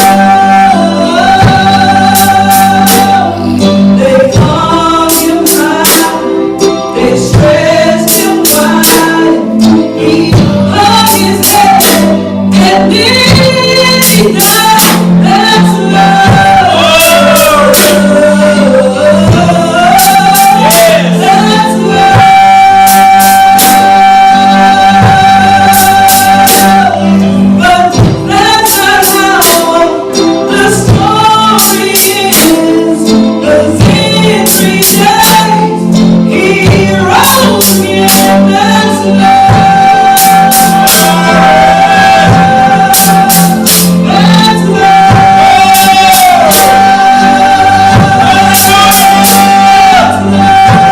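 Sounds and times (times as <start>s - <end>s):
congregation singing with band: 0.0s - 50.9s.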